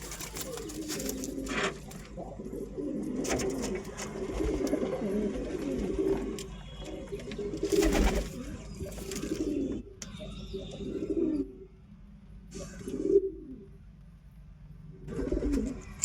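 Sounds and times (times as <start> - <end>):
pigeons cooing: 0.0 - 11.8, 12.5 - 13.8, 15.1 - 16.0.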